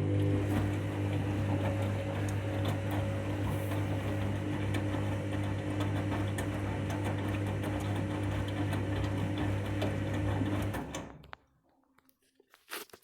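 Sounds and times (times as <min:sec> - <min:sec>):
washing machine humming: 0:00.0 - 0:11.3.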